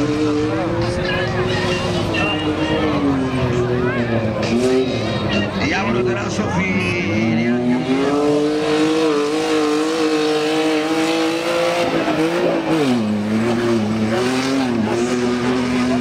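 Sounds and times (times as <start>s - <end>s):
off-road vehicle engine passing: 0.0s - 16.0s.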